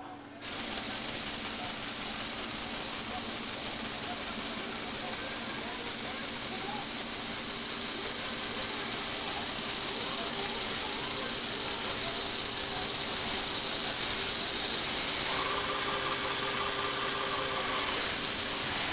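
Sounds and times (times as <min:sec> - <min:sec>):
toy electric motor whirring: 0:00.4 - 0:18.9.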